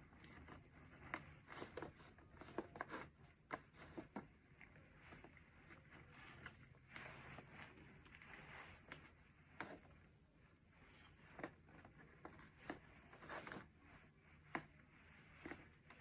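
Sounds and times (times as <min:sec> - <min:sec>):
soft rustling: 0:00.0 - 0:16.0.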